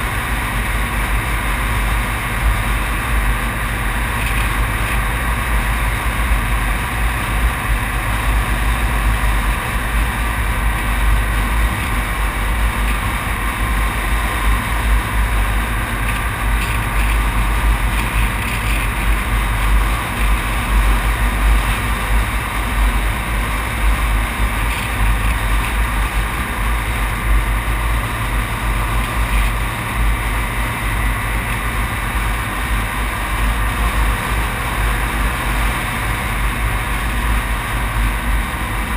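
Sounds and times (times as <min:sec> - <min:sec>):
engine and tyre noise: 0:00.0 - 0:38.9.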